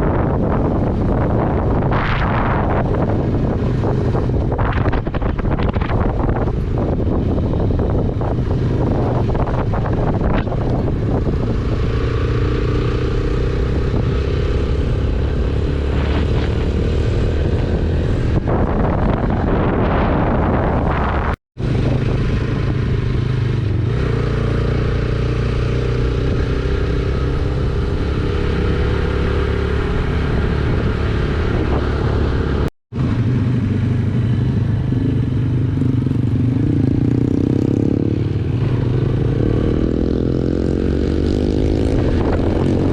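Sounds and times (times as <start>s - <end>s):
road and wind noise: 0.0s - 42.9s.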